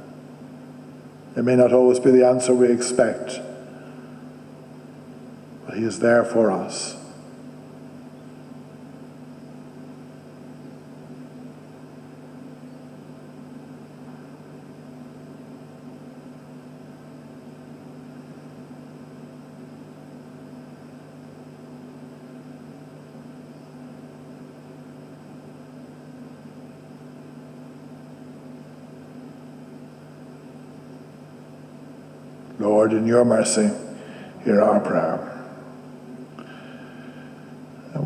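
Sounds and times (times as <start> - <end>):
low hum with hiss: 0.0 - 38.0.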